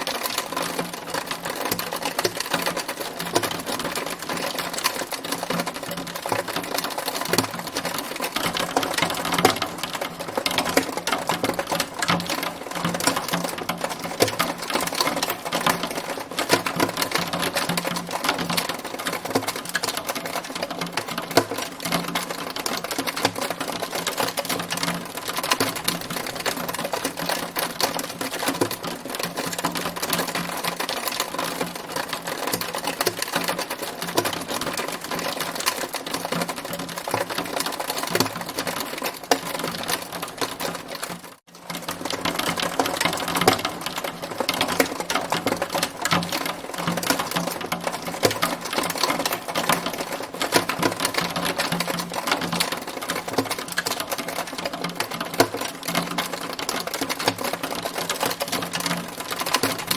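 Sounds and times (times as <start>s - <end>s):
hailstones pelting hard surface: 0.0s - 59.9s.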